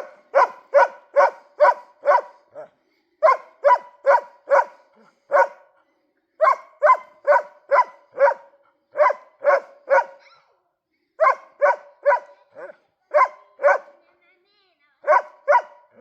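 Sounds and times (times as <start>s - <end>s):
dog barking: 0.0s - 5.7s, 6.4s - 10.5s, 11.2s - 14.0s, 15.0s - 16.0s.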